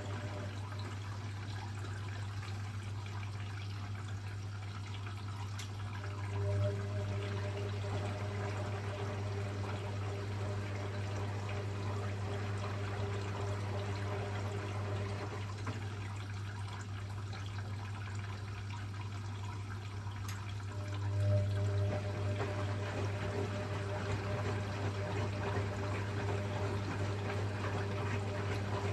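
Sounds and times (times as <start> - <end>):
water pouring into washing machine: 0.0 - 28.9.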